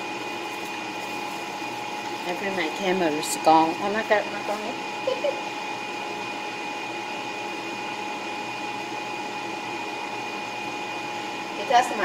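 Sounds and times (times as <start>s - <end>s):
appliance motor humming: 0.0s - 12.0s.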